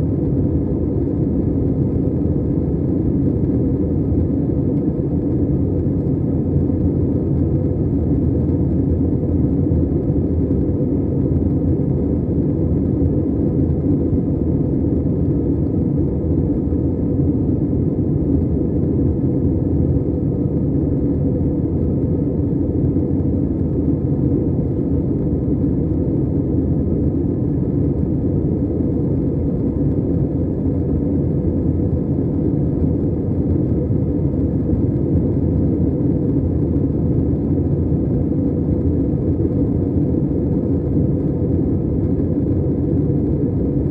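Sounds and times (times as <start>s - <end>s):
airliner engine rumble in cabin: 0.0s - 43.9s.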